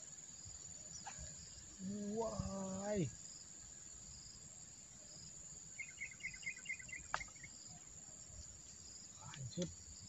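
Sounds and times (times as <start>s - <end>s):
crickets droning: 0.0s - 10.0s.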